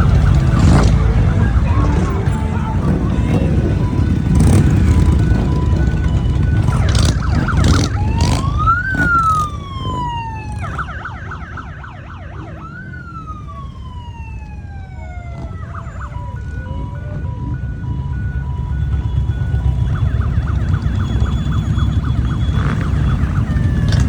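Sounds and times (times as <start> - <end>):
emergency vehicle siren: 0.0 - 24.0.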